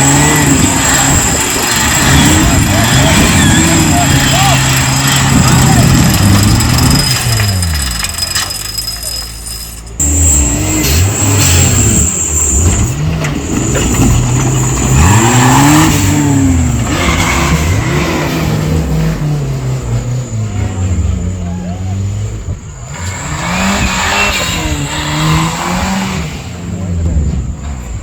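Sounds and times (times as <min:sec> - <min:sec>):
off-road engines revving: 0:00.0 - 0:28.0.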